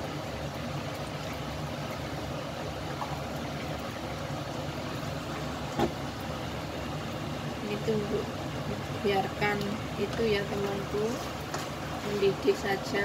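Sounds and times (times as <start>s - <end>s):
pot hissing and rumbling: 1.4s - 13.0s.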